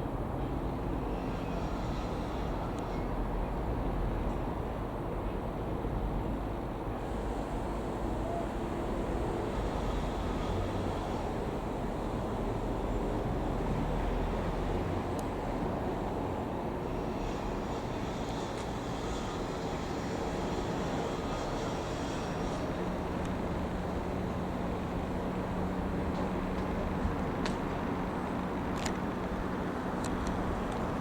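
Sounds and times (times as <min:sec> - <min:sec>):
light aircraft engine droning: 0:00.0 - 0:31.0.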